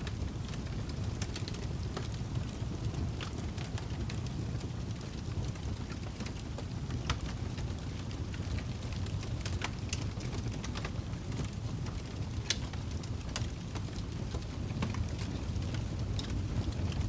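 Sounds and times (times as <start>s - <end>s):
fire crackling and popping: 0.0s - 17.0s
low rumble of fire: 0.0s - 17.0s.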